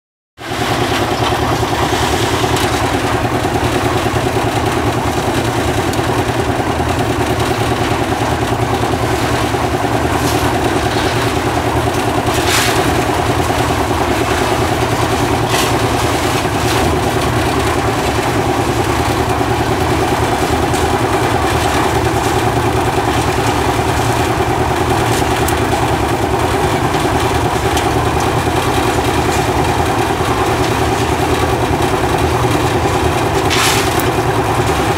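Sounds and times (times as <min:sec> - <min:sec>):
concrete mixer running: 0:00.4 - 0:34.9
knocks and scrapes: 0:00.5 - 0:06.5, 0:07.1 - 0:24.4, 0:26.9 - 0:34.9.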